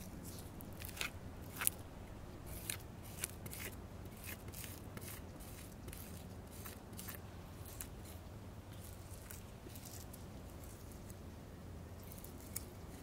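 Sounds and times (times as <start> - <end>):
cotton swab scratching on marble: 0.0 - 11.2.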